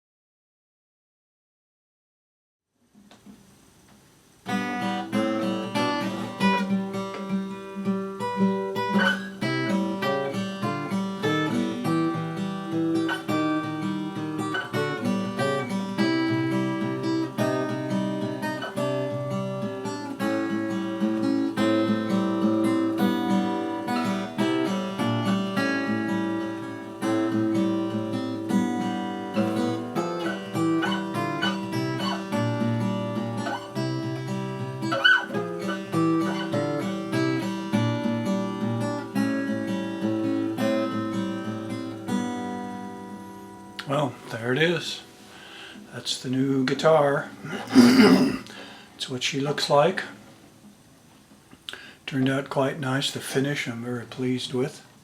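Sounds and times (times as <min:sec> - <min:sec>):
acoustic guitar playing: 0:04.4 - 0:48.9.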